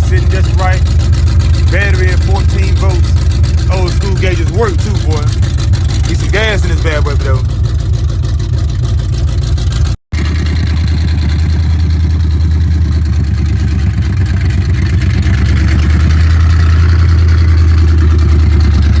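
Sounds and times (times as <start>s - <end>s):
pickup engine idling loudly: 0.0s - 19.0s.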